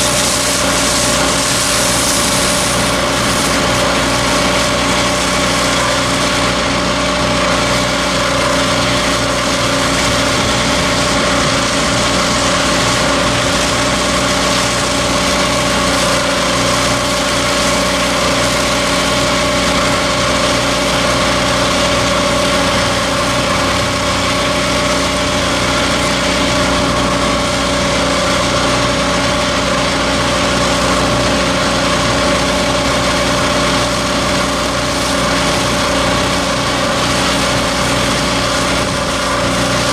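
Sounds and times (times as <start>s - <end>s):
engine running steadily: 0.0s - 39.9s
slurry spraying from hose: 0.0s - 39.9s.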